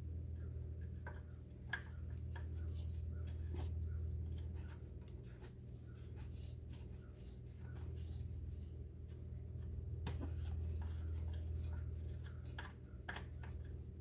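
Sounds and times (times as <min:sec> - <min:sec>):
steady low hum: 0:00.0 - 0:14.0
light rubbing: 0:00.3 - 0:14.0.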